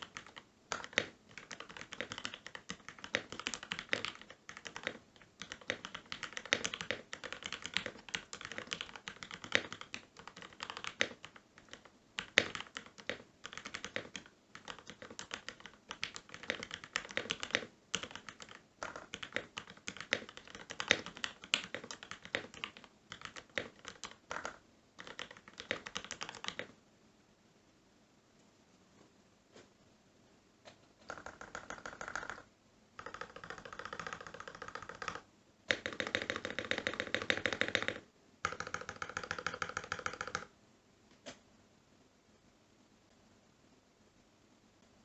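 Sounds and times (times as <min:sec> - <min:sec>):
mechanical keyboard typing: 0:00.0 - 0:26.8, 0:31.0 - 0:40.5.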